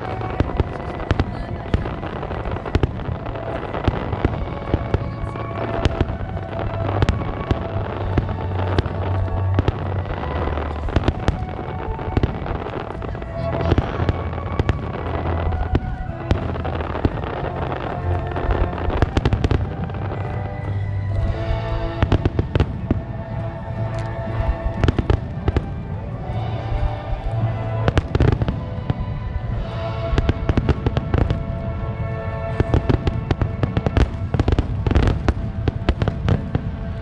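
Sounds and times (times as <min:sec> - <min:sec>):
fireworks bangs and crackles: 0:00.0 - 0:37.0
low boom: 0:00.0 - 0:37.0
music playing: 0:00.0 - 0:37.0.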